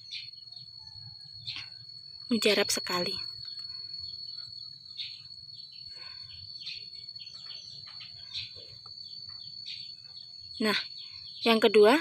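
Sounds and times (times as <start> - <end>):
bird chirps: 0.0 - 12.0
high insect trill: 0.0 - 12.0.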